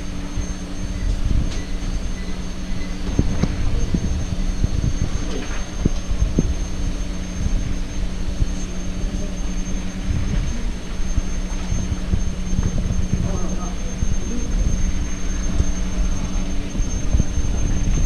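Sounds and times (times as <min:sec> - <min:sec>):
moving walkway hum and rumble: 0:00.0 - 0:18.0.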